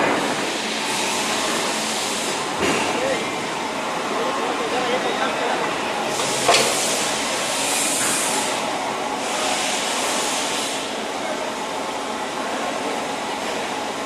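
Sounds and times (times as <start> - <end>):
railway workshop din: 0.0 - 14.0.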